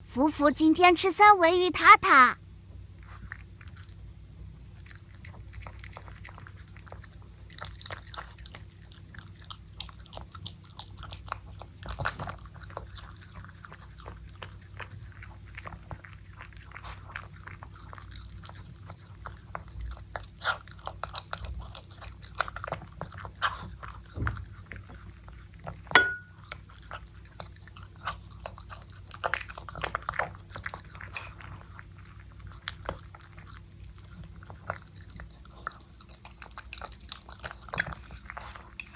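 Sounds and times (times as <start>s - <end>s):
puppy chewing: 2.9s - 38.9s.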